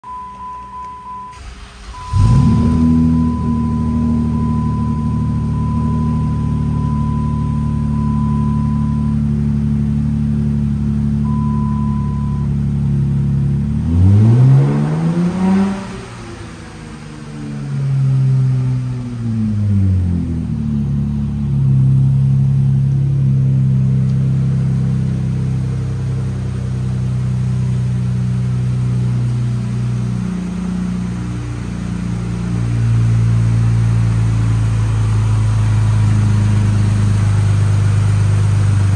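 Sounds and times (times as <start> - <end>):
car engine idling: 0.0 - 38.9
car engine revving: 1.4 - 38.9.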